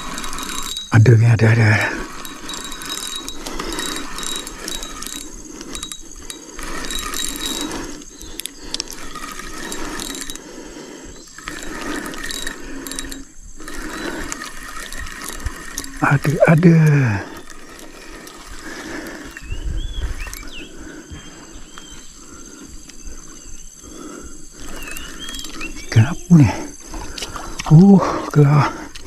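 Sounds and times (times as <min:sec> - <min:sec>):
fishing reel gears ratcheting: 0:00.0 - 0:29.0.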